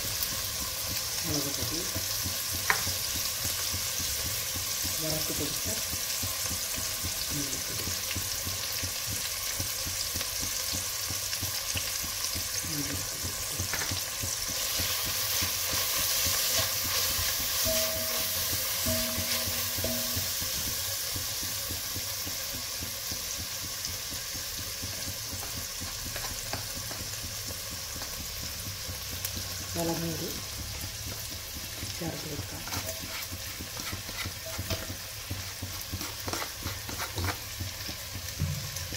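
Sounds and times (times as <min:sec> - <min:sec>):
spatula stirring in pot: 0:00.0 - 0:38.9
vegetables sizzling in hot oil: 0:00.0 - 0:38.9.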